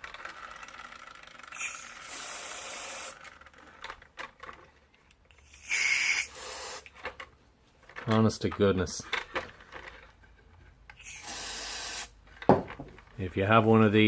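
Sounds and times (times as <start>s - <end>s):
plastic toy gears whirring: 0.0s - 13.1s.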